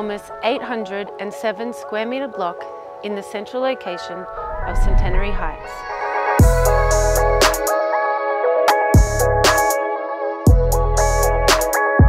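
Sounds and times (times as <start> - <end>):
sustained background music chords: 0.0 - 12.0.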